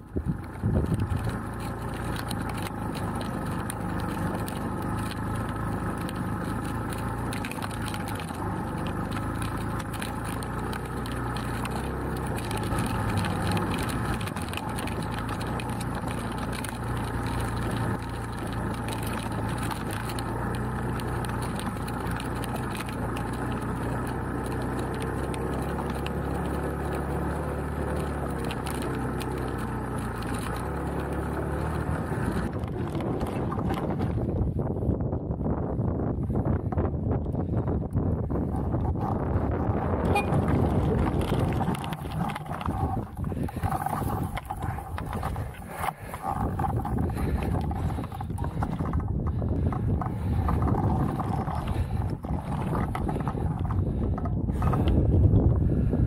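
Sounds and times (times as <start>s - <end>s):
chassis rattles: 0.0s - 34.7s, 38.3s - 55.4s
motorcycle engine running under load: 0.0s - 56.0s
stones clattering: 0.8s - 34.2s, 39.9s - 55.0s.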